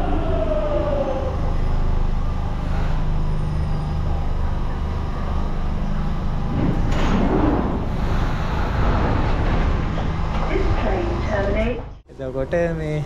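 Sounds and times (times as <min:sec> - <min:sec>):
doors sliding open: 0:00.0 - 0:12.0
train humming at platform: 0:00.0 - 0:13.0.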